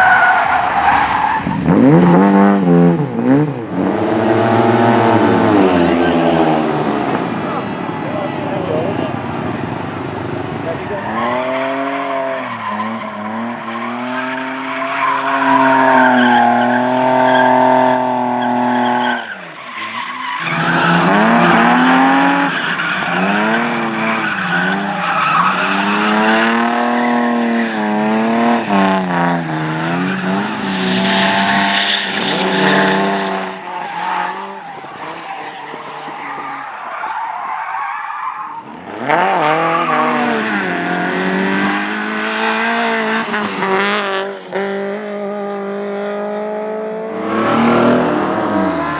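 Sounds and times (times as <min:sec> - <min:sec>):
tyre squeal and skidding: 0:00.0 - 0:02.2, 0:08.7 - 0:45.2, 0:47.1 - 0:48.9
rally car engines revving: 0:00.0 - 0:48.9.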